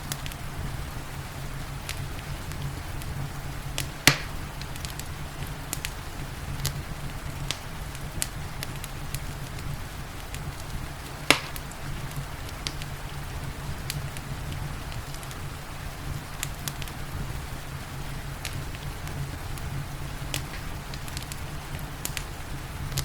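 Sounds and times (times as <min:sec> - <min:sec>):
loud fire pops: 0:00.0 - 0:23.0
rain hiss: 0:00.0 - 0:23.0
wood fire crackling: 0:00.0 - 0:23.0.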